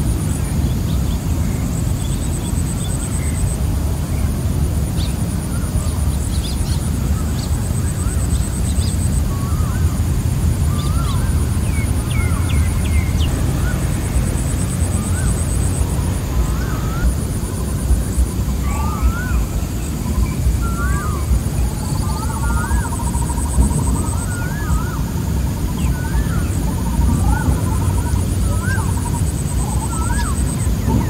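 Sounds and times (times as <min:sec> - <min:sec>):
insects trilling: 0:00.0 - 0:31.0
birds whistling and chirping: 0:05.0 - 0:31.0.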